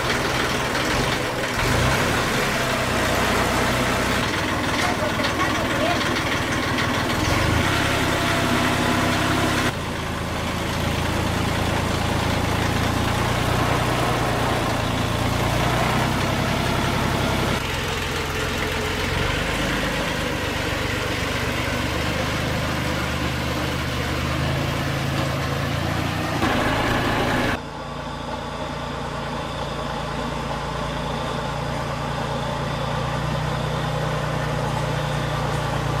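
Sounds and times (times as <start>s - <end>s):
vehicle engine idling: 0.0s - 36.0s.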